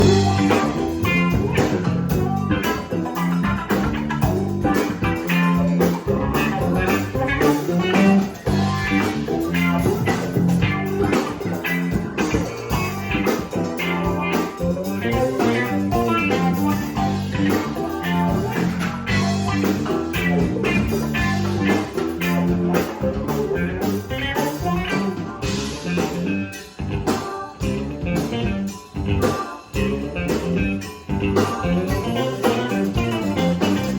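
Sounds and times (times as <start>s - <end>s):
instrumental blues-rock: 0.0s - 33.9s.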